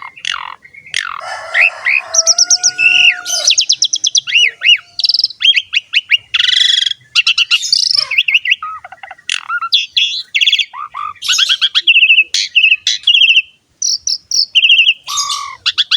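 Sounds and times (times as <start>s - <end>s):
starling singing: 0.0s - 15.9s.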